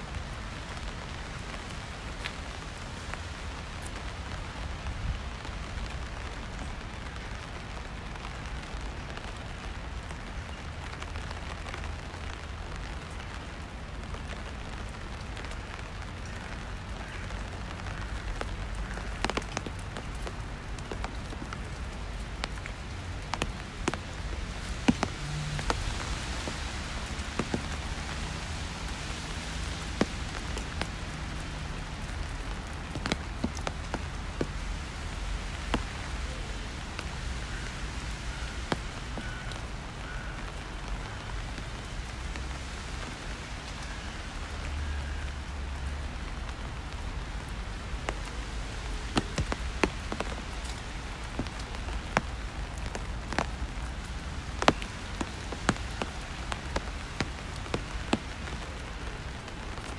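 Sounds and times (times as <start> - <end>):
steady rain: 0.0 - 59.9
raindrops tapping: 0.1 - 59.9.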